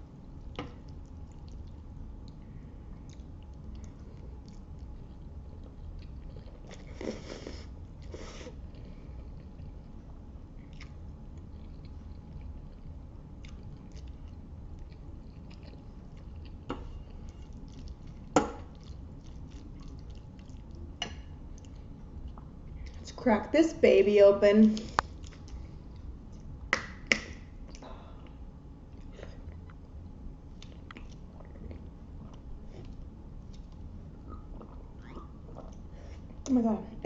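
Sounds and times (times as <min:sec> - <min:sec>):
chewing spaghetti: 0:00.4 - 0:23.1, 0:28.9 - 0:36.4.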